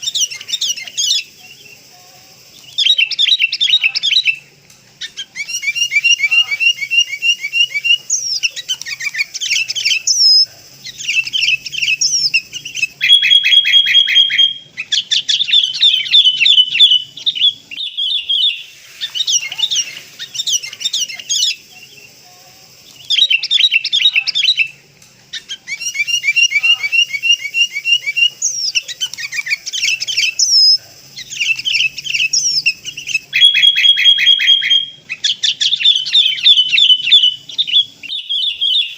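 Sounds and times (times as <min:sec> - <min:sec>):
bird chirping and trills: 0:00.0 - 0:38.9.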